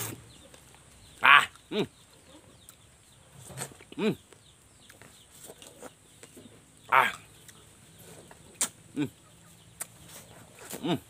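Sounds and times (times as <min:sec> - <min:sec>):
chicken clucking: 0:00.0 - 0:11.0.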